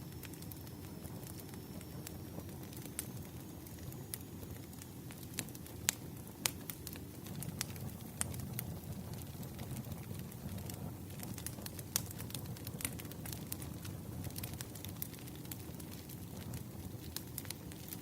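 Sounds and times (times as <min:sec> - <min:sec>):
bonfire rumble: 0:00.0 - 0:18.0
fire crackling and popping: 0:00.0 - 0:18.0.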